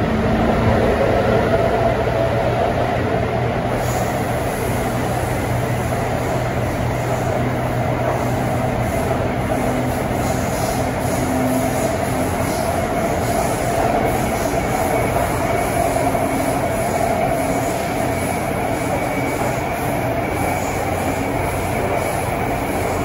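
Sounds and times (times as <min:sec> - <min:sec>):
train motor hum: 0:00.0 - 0:23.0
train wheels rumbling on track: 0:00.0 - 0:23.0.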